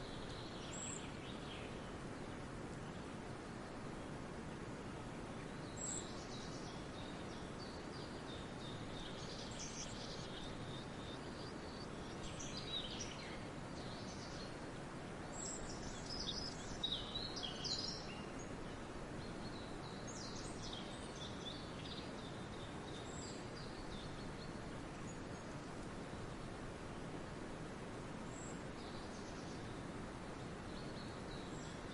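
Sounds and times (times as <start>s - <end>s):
songbirds singing: 0.0s - 26.7s, 28.2s - 31.9s
steady background hiss: 0.0s - 31.9s.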